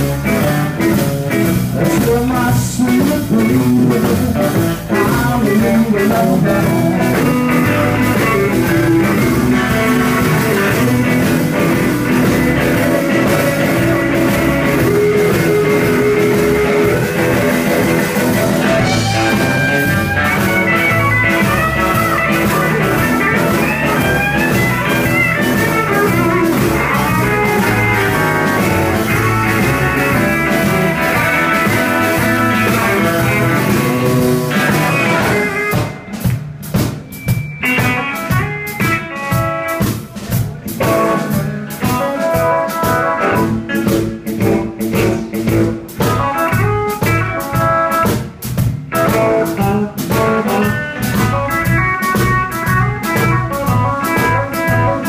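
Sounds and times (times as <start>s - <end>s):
lead guitar soloing: 0.0s - 36.4s, 37.0s - 40.0s, 40.8s - 55.0s
live blues band playing: 0.0s - 55.0s.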